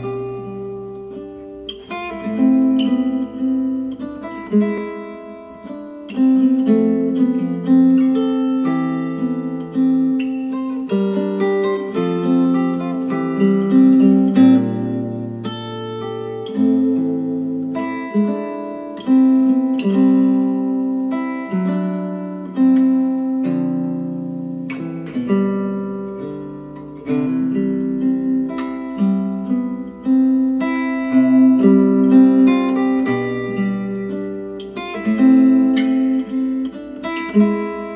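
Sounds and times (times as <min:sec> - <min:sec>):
acoustic guitar music: 0:00.0 - 0:37.9.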